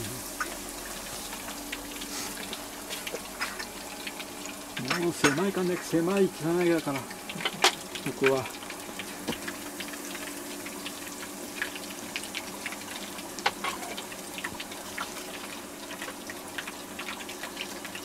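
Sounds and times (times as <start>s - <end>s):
deep-frying sizzle with pops: 0.0s - 18.0s
faint steady hum: 0.0s - 18.0s.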